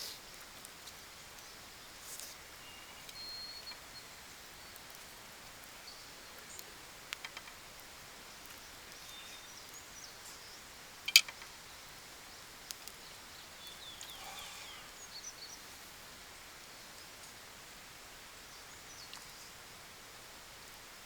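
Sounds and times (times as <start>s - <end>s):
small birds chirping: 0.0s - 17.4s
outdoor background noise: 0.0s - 21.0s.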